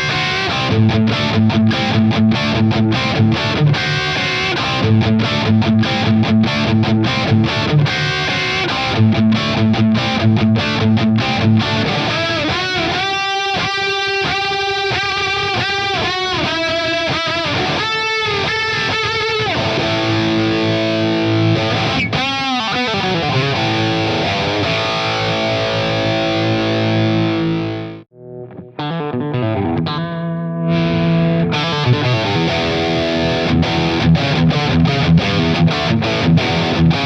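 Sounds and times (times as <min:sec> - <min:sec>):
distorted electric guitar music: 0:00.0 - 0:37.0.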